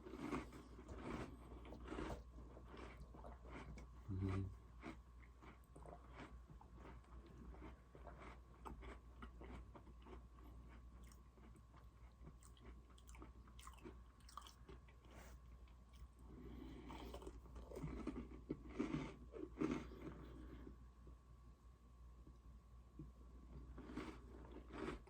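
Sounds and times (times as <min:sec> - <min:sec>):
cookies crunching while chewed: 0:00.0 - 0:20.8, 0:23.4 - 0:25.0.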